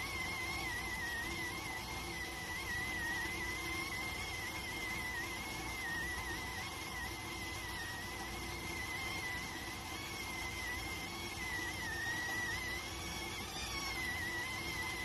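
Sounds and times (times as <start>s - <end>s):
rice cooker steam whistle: 0.0s - 15.0s.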